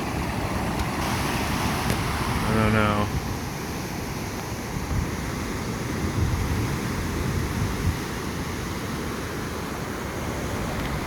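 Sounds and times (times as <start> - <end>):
ocean surf: 0.0 - 11.0
wind: 0.0 - 11.0
wind rumble on microphone: 0.0 - 11.0.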